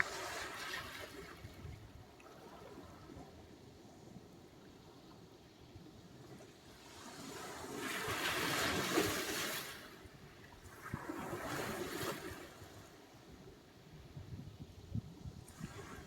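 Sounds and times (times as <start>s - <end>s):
waves breaking and washing in: 0.0s - 16.0s.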